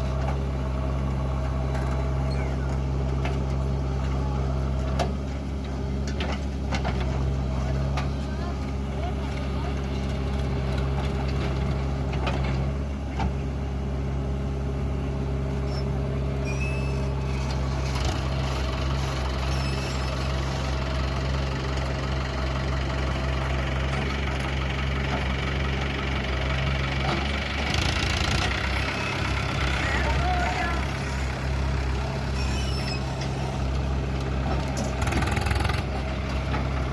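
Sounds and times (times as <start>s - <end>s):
diesel engine running under work: 0.0s - 36.9s.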